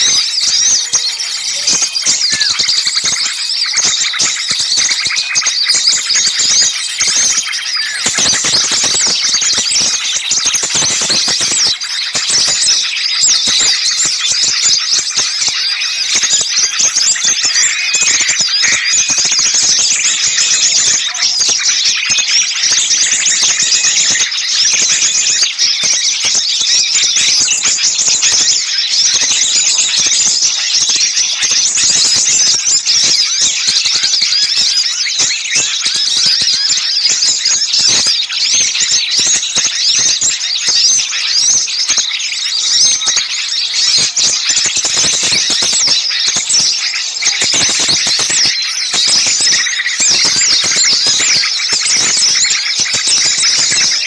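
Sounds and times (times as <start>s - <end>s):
chorus of small songbirds chirping: 0.0s - 54.0s.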